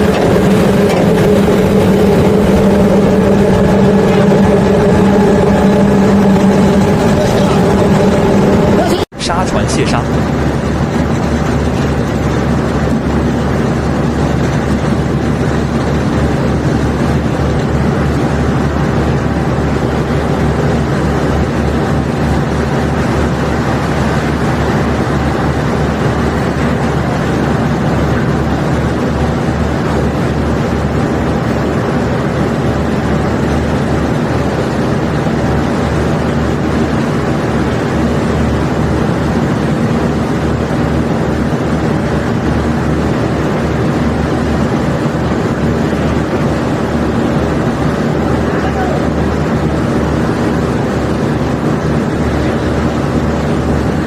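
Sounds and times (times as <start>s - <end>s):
machinery engine drone: 0.0s - 54.0s.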